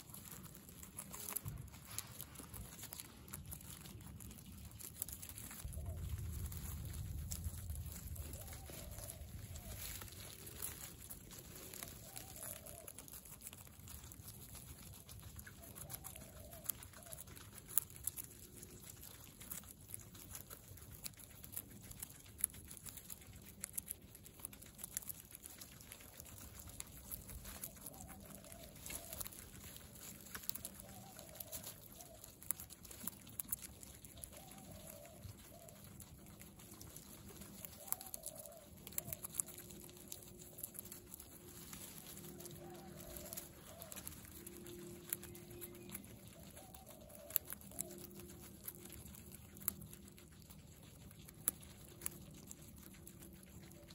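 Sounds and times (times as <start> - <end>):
guinea pig soft calls: 0.0 - 53.9
guinea pigs crunching carrot: 0.0 - 53.9.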